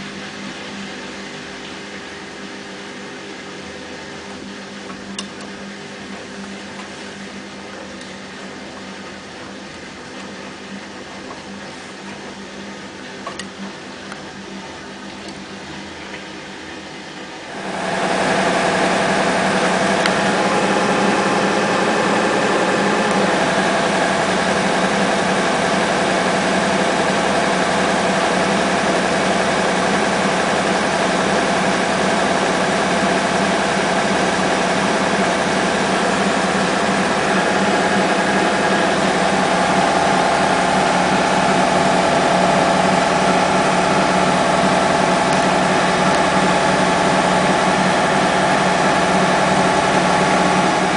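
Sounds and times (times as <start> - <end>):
washing machine running: 0.0 - 50.9.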